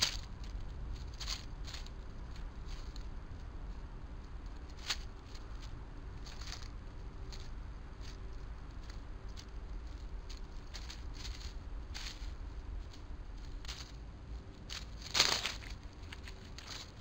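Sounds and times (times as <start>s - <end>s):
low background rumble: 0.0s - 17.0s
small animals rustling in dry leaves: 0.0s - 17.0s.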